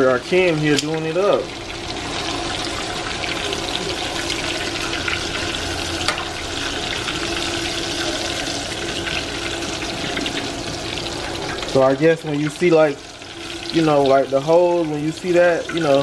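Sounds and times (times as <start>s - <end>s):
hot oil sizzling and bubbling: 0.0s - 16.0s.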